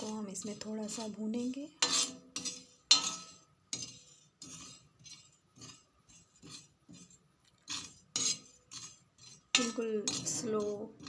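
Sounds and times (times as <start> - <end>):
metal utensil scraping on iron pan: 0.0 - 11.0.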